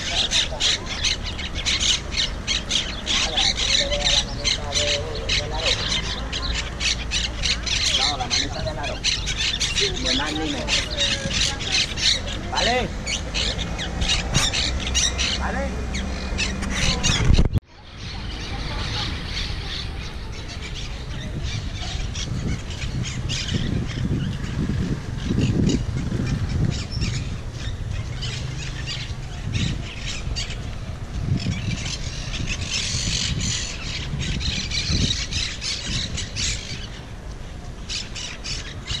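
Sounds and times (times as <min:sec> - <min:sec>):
parakeets squawking: 0:00.0 - 0:37.1, 0:37.9 - 0:39.0.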